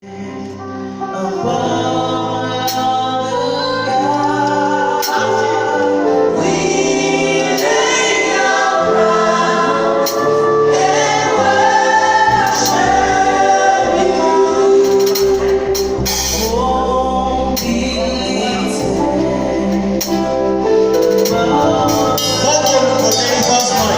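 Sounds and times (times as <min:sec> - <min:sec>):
gospel choir singing: 0:00.0 - 0:23.9.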